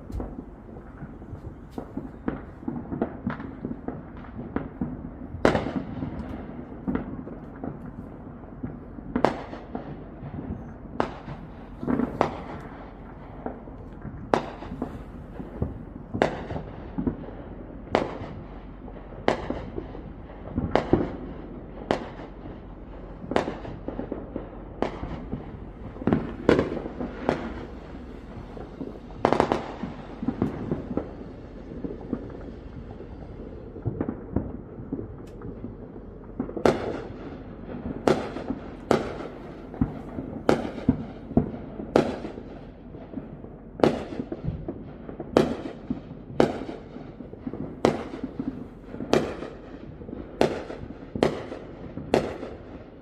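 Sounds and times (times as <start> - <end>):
fireworks banging: 0.0 - 53.0
low background rumble: 0.0 - 53.0.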